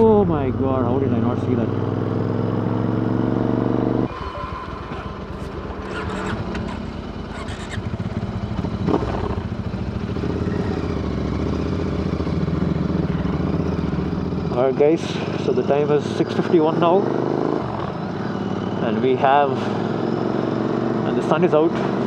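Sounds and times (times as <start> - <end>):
motorcycle engine riding: 0.0 - 22.0.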